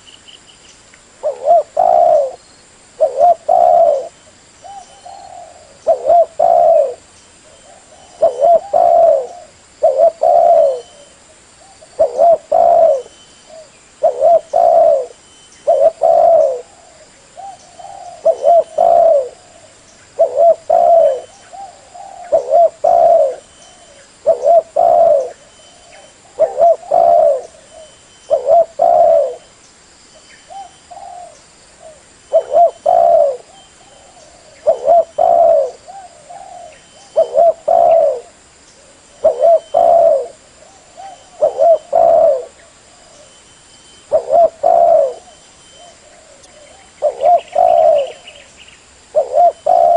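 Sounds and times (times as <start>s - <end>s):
dove cooing: 1.2s - 2.4s, 3.0s - 29.5s, 30.5s - 43.4s, 44.0s - 48.5s, 49.1s - 49.9s.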